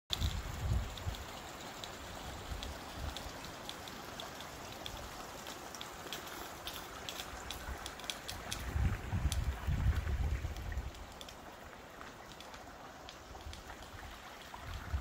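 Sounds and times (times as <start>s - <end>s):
steady hiss: 0.1s - 15.0s.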